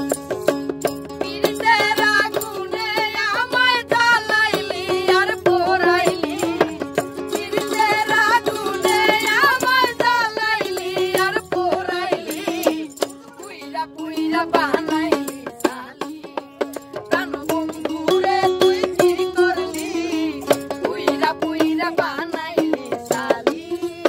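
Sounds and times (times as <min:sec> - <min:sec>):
frame drum: 0:00.0 - 0:24.0
hand percussion striking: 0:00.0 - 0:24.0
high voice singing folk song: 0:01.2 - 0:24.0.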